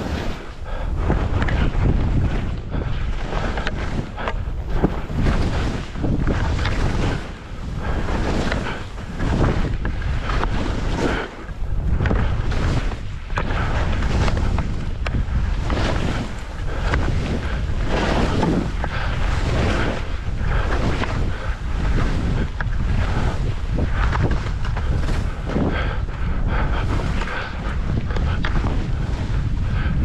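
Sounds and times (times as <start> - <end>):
skis hissing through snow: 0.0 - 26.0
wind buffeting microphone: 0.0 - 30.0.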